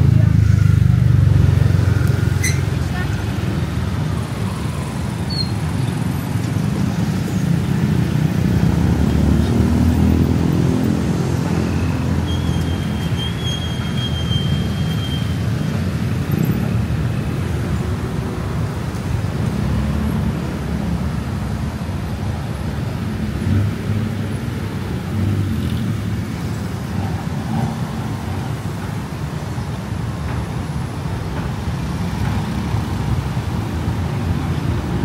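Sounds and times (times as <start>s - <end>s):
road traffic engines: 0.0s - 35.0s.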